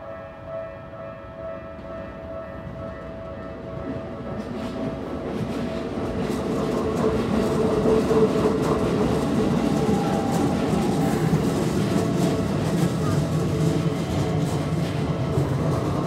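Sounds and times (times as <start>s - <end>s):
train wheels clattering on rails: 2.7s - 16.0s.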